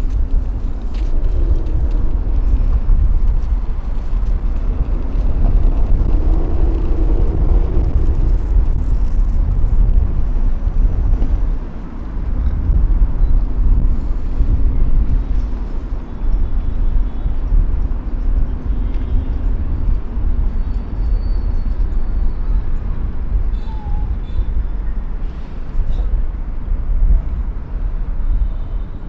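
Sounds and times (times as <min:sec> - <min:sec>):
low city rumble: 0:00.0 - 0:29.0.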